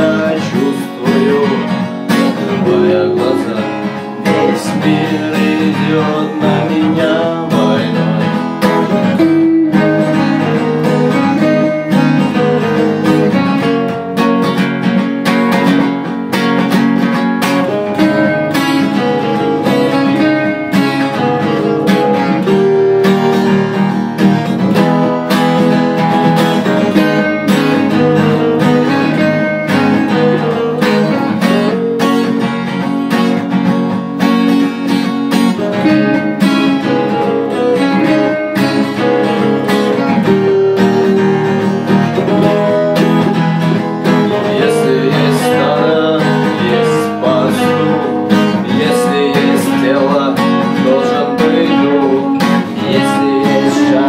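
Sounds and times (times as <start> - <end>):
guitar strumming chords: 0.0 - 54.0.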